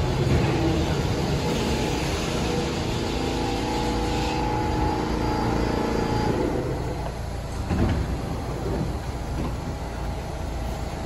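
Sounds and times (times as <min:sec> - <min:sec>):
subway train hum and rumble: 0:00.0 - 0:11.0.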